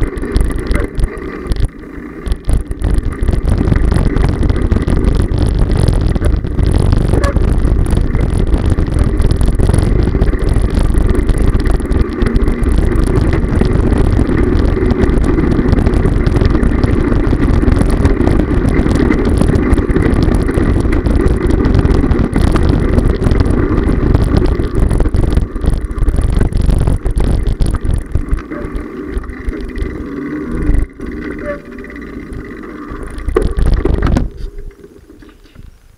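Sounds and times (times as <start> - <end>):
bicycle rattling over cobblestones: 0.0 - 35.9.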